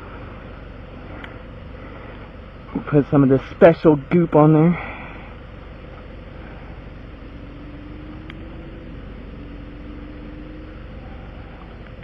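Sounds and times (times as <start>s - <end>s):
faint steady tone: 0.0s - 12.0s
vehicle engine idling: 0.0s - 12.0s.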